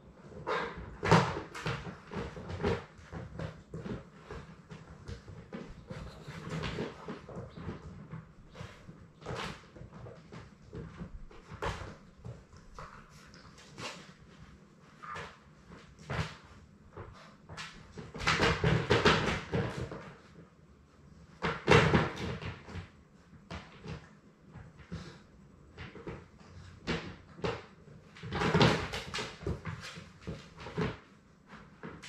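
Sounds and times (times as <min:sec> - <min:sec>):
puppies knocking and rustling: 0:00.1 - 0:20.5, 0:21.2 - 0:32.0.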